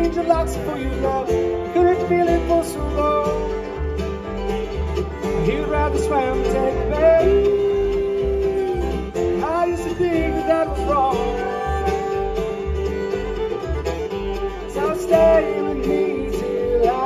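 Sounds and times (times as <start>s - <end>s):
bluegrass band playing: 0.0s - 17.0s.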